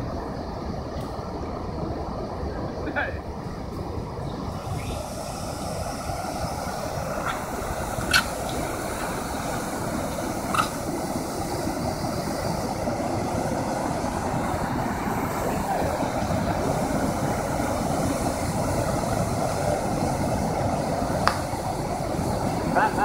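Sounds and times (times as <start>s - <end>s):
waterfall rushing: 3.9s - 23.0s.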